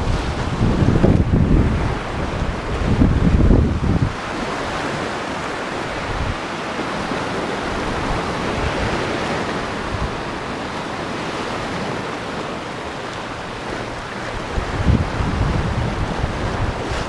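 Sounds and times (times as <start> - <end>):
surf washing over rocks: 0.0 - 17.0
wind: 0.0 - 17.0.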